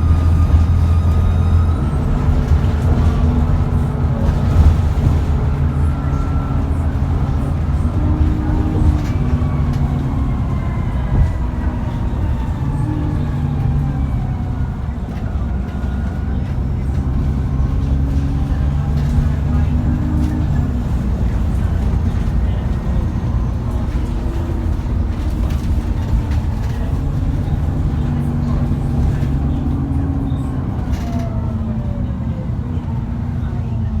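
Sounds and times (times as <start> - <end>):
bus diesel engine running: 0.0 - 34.0.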